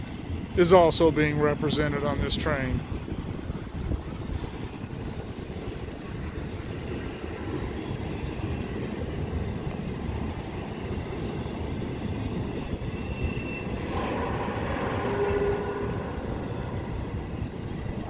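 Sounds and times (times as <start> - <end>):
freight train cars rumbling: 0.0 - 18.0.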